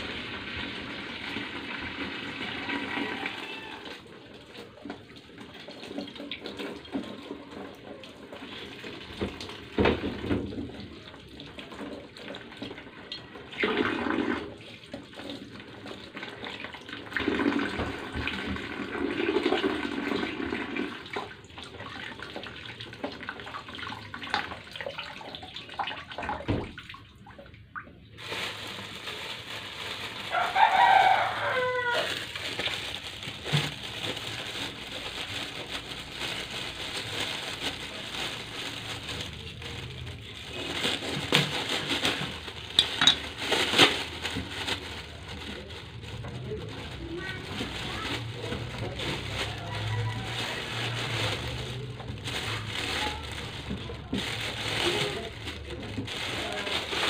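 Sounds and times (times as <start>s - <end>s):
water running from hose: 0.0s - 26.7s, 28.1s - 57.0s
water splashing and sloshing: 0.0s - 57.0s.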